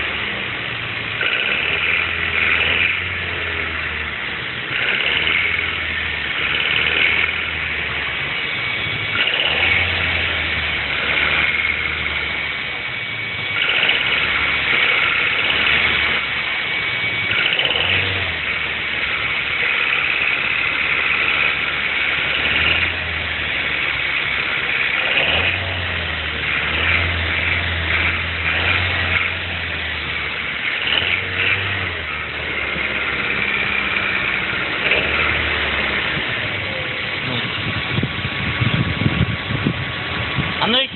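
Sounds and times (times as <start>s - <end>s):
car engine running: 0.0s - 40.9s
engine knocking rattle: 0.0s - 40.9s.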